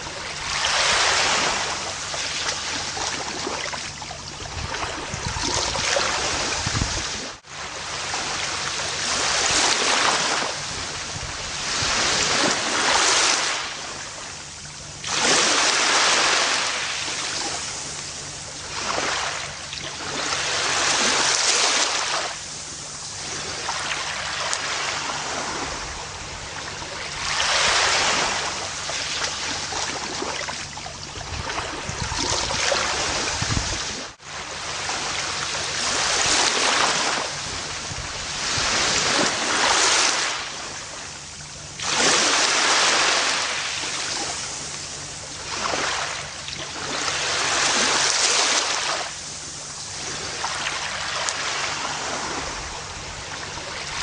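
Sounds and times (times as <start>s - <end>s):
ocean waves on a beach: 0.0s - 54.0s.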